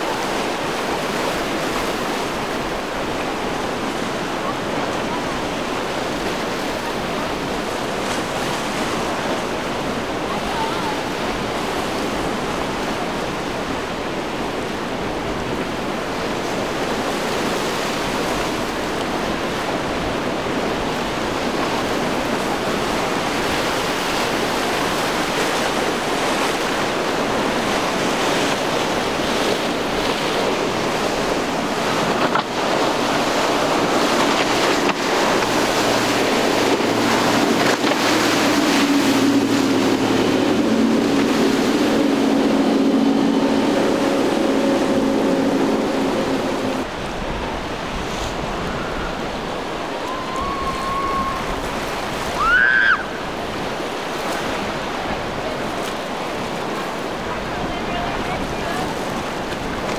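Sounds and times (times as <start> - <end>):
wind buffeting microphone: 0.0 - 52.4
boat outboard engines humming: 0.0 - 59.9
ocean surf breaking: 0.0 - 59.9.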